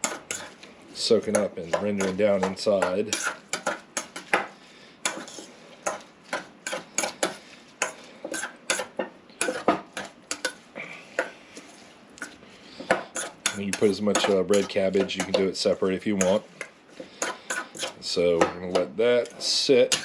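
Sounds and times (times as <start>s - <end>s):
utensil scraping a mixing bowl: 0.0s - 4.4s, 5.0s - 10.6s, 11.7s - 20.0s.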